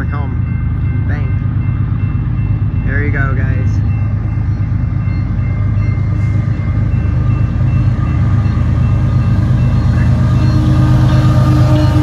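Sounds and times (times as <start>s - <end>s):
crossing bell ringing: 0.0s - 12.0s
diesel locomotives rumbling: 0.0s - 12.0s.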